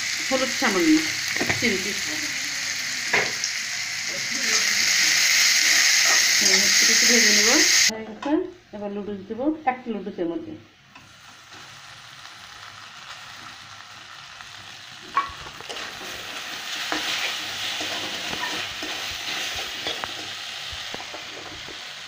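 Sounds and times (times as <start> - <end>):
noodles sizzling in hot oil: 0.0 - 7.9, 11.0 - 22.0.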